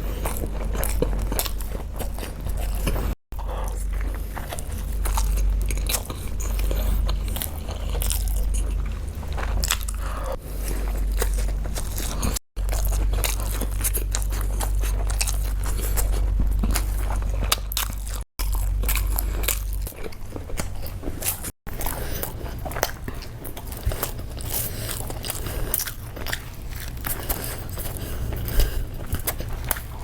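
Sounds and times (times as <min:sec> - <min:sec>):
low hum: 0:00.0 - 0:30.0
person chewing crunchy food: 0:00.0 - 0:30.0.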